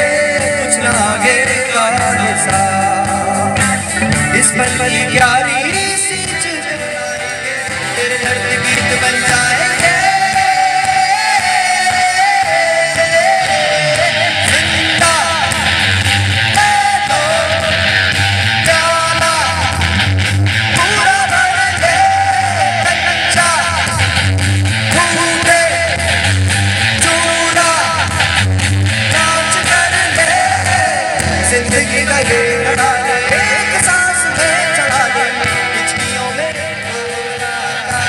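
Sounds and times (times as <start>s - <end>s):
bending lead guitar melody: 0.0s - 38.0s
rock band playing live: 0.0s - 38.0s.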